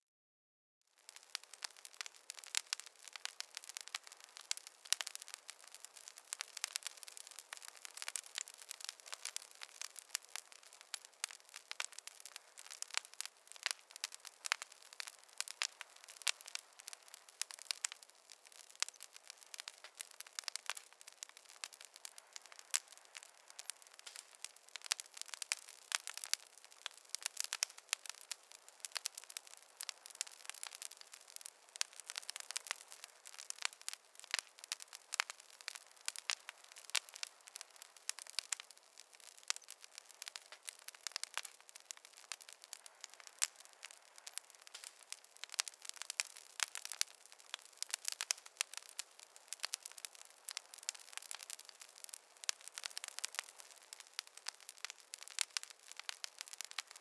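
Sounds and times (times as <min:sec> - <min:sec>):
campfire crackling: 0:00.9 - 0:57.0.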